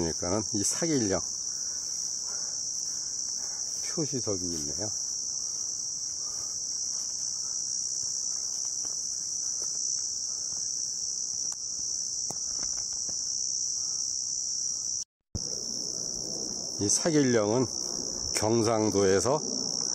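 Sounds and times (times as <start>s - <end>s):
insects chirring: 0.0s - 19.9s.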